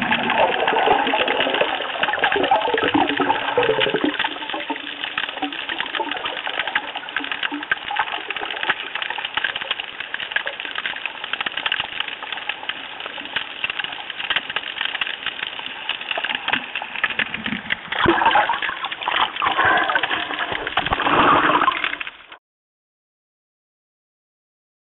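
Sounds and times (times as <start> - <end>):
underwater crackle of clicks: 0.0 - 22.3
rushing water underwater: 0.0 - 22.4.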